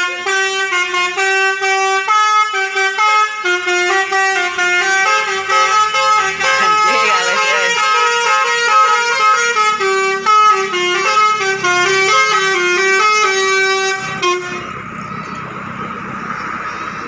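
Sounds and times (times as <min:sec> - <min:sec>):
multi-tone musical air horn: 0:00.0 - 0:14.7.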